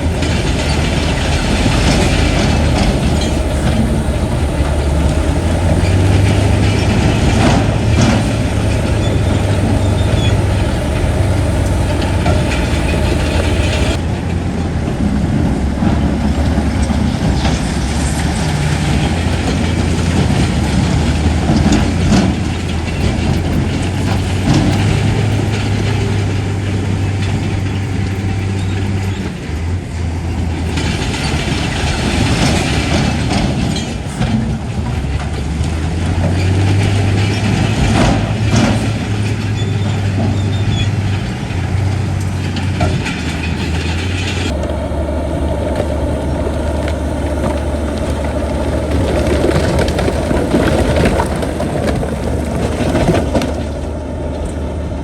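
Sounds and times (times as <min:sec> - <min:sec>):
bulldozer diesel engine: 0:00.0 - 0:55.0
low grinding noise: 0:00.0 - 0:55.0
metal tracks clattering: 0:00.0 - 0:55.0.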